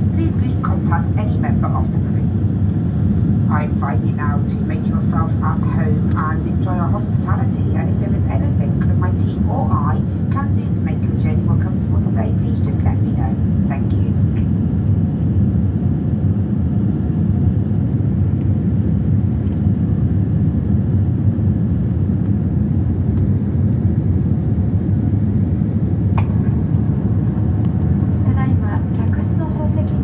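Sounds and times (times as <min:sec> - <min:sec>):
jet cabin engine roar: 0:00.0 - 0:30.0.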